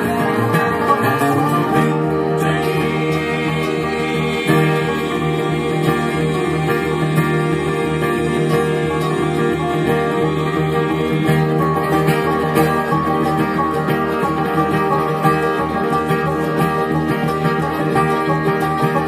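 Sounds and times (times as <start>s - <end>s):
bluegrass string band playing: 0.0s - 19.0s.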